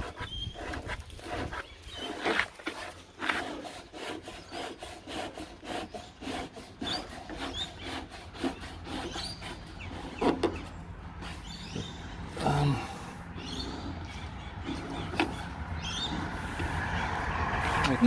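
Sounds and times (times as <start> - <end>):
parts rubbing scraping and clicking: 0.0 - 5.4, 6.1 - 12.0, 13.3 - 17.0.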